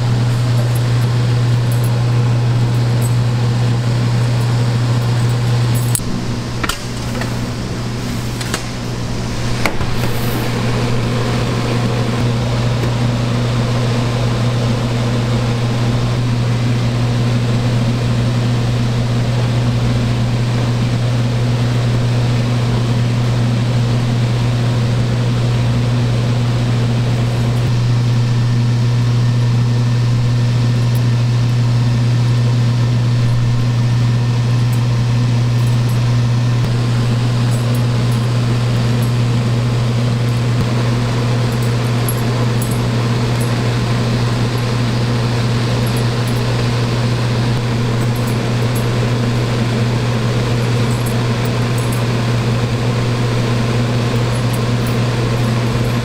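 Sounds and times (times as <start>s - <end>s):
kitchen machinery hum: 0.0s - 56.0s.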